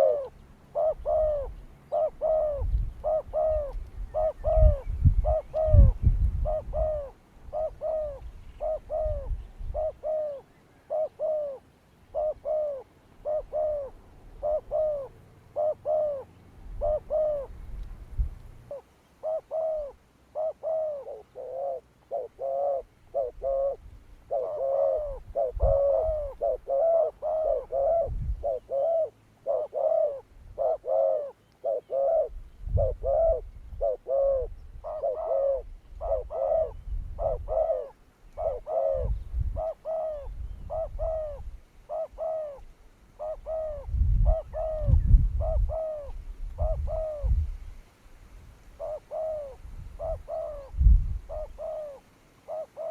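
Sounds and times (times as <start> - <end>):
dove cooing: 0.0 - 17.7, 18.6 - 47.5, 48.8 - 52.9.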